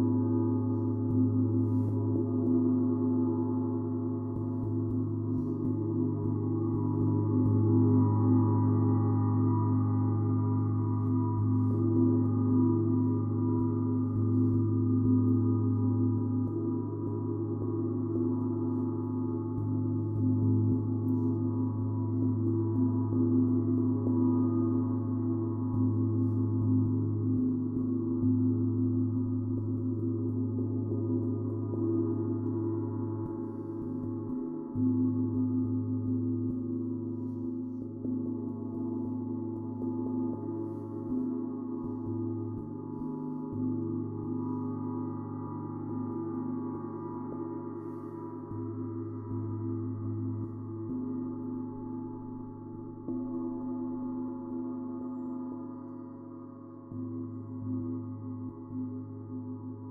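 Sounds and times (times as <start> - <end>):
deep sustained ringing tone: 0.0 - 59.9.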